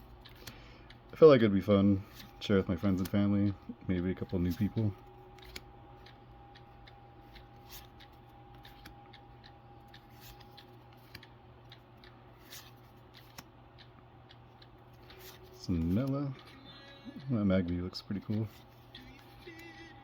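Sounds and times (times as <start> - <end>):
trading cards clicking and sliding: 0.0 - 20.0.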